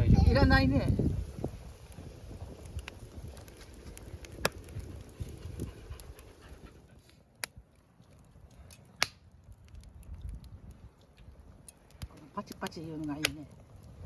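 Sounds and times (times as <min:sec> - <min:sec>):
burning wood popping: 0:00.0 - 0:14.0
campfire crackling: 0:00.0 - 0:14.0.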